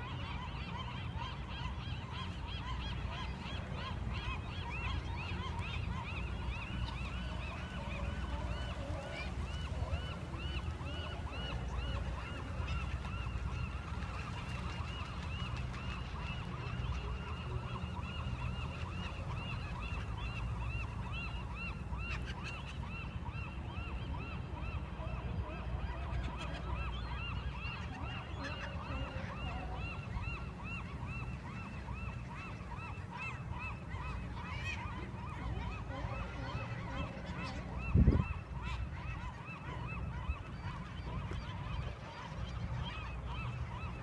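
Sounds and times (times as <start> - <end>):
flock of shorebirds calling: 0.0 - 44.0.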